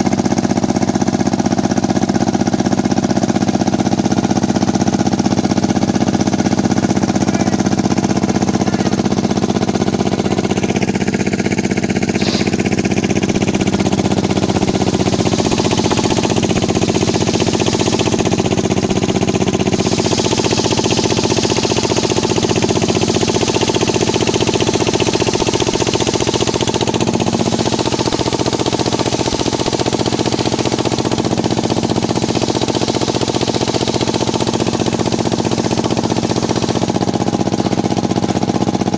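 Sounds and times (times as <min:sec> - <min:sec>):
sawmill motor drone: 0:00.0 - 0:38.9.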